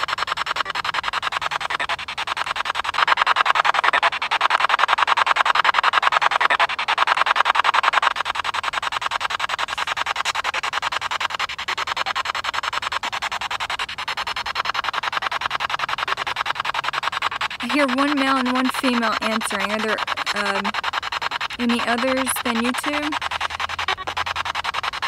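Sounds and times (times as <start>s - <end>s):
pulsing radio static: 0.0s - 25.0s.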